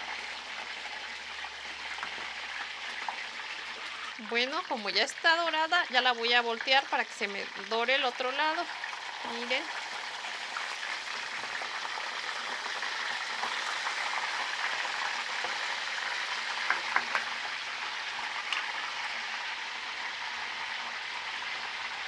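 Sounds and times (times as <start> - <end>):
fish deep-frying in oil: 0.0 - 22.0.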